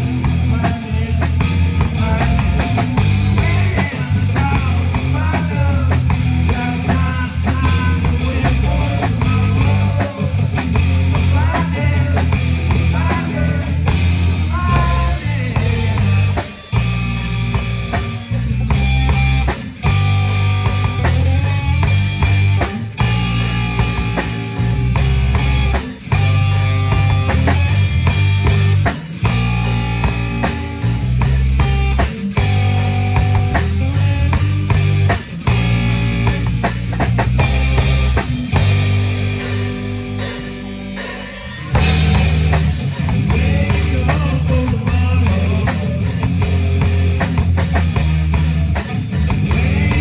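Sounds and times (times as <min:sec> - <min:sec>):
bass guitar: 0:00.0 - 0:50.0
electric guitar bending notes: 0:00.0 - 0:50.0
rock band playing: 0:00.0 - 0:50.0
steady drum beat: 0:00.0 - 0:50.0.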